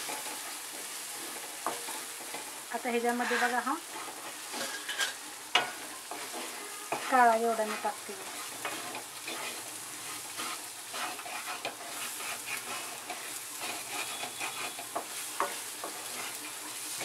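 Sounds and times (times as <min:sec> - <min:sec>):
beans sizzling in hot oil: 0:00.0 - 0:17.0
spoon scraping a pan: 0:00.0 - 0:17.0.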